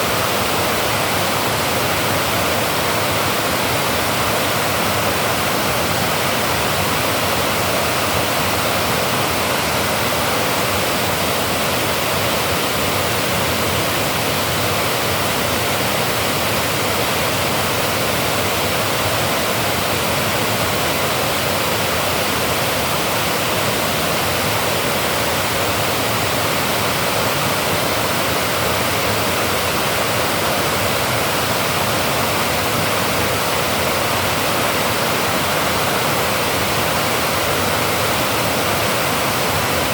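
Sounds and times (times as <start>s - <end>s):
water rushing over dam: 0.0s - 39.9s.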